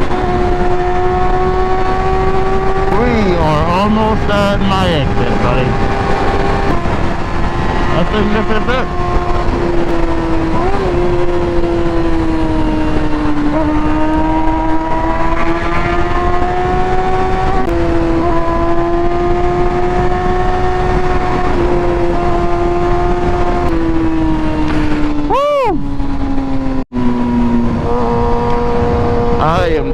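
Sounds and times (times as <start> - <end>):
motorcycle engine at high revs: 0.0 - 25.3, 26.0 - 29.9.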